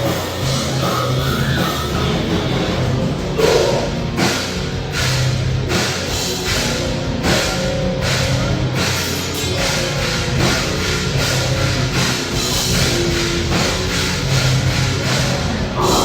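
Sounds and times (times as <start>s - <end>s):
driving drum beat: 0.0s - 16.0s
heavy rock music: 0.0s - 16.0s.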